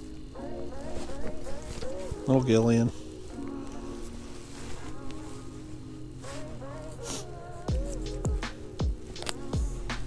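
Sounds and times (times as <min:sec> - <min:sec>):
background music with wavering melody: 0:00.0 - 0:10.0.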